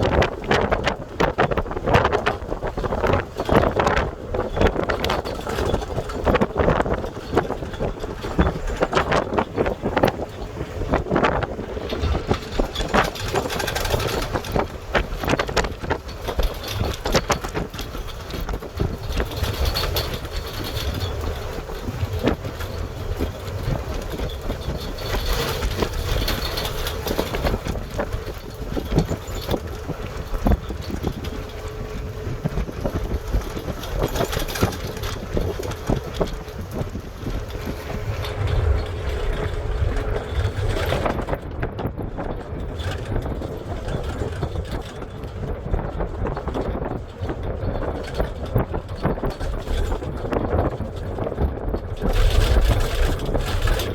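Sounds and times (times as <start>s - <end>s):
small knocks and rattles: 0.0s - 53.9s
vehicle rumble: 0.0s - 53.9s.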